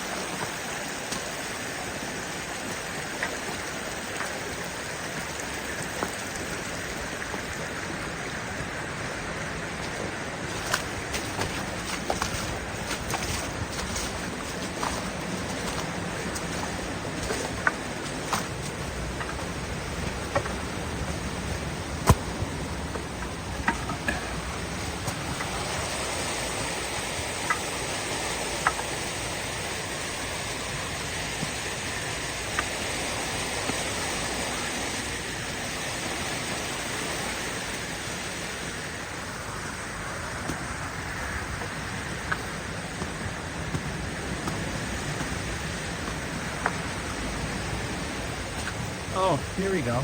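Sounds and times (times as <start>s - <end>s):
waterfall and creek rushing: 0.0s - 50.0s.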